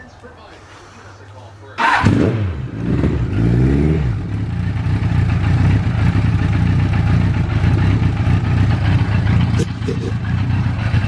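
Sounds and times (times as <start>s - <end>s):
motorcycle engine revving and idling: 1.8s - 11.0s.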